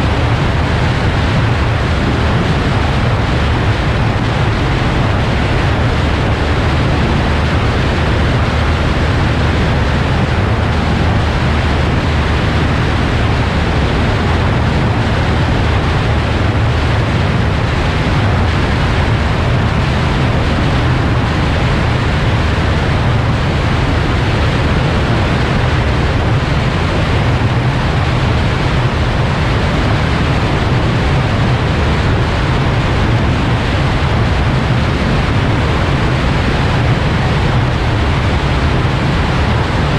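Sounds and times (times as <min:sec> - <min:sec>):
plane engine and propeller drone: 0:00.0 - 0:39.9
wind rush: 0:00.0 - 0:39.9.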